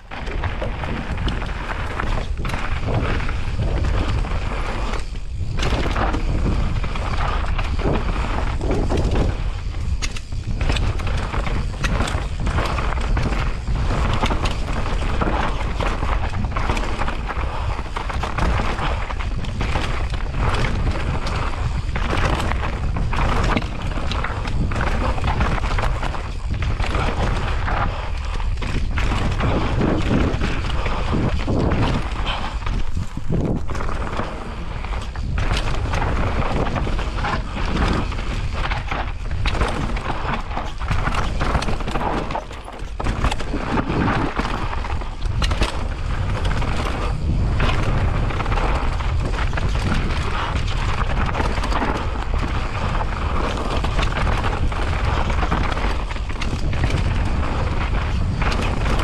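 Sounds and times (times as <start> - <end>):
bike knocking and rattling: 0.0 - 59.0
bike tyres on dirt and rocks: 0.0 - 59.0
wind rumble on microphone: 0.0 - 59.0.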